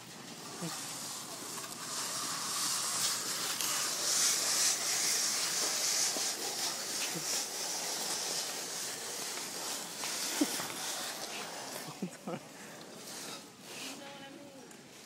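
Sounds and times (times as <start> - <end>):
cardboard box scraping on concrete: 0.5 - 12.3, 12.9 - 14.1.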